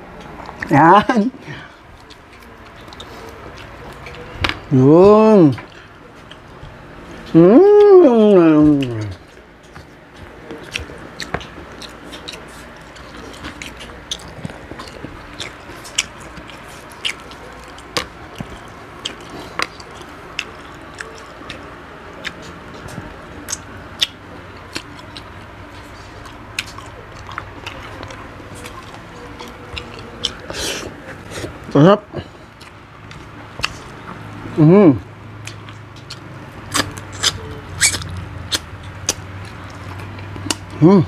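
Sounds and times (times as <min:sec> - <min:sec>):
chewing and crunching: 0:00.0 - 0:41.0.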